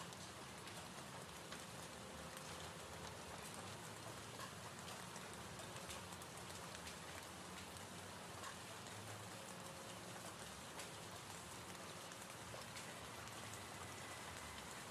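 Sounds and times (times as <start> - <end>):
rain drops ticking: 0.0 - 14.9
steady rainfall: 0.0 - 14.9.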